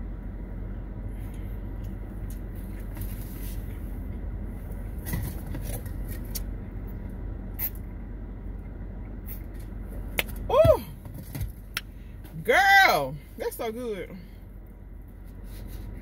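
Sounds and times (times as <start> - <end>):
low hum in car cabin: 0.0 - 16.0.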